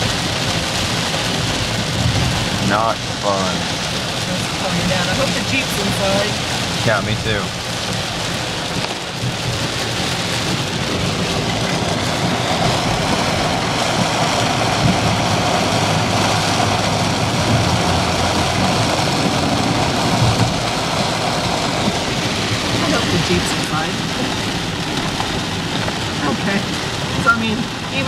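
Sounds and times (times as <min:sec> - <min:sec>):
heavy rain drumming on a car: 0:00.0 - 0:28.0
low vehicle hum: 0:00.0 - 0:28.0.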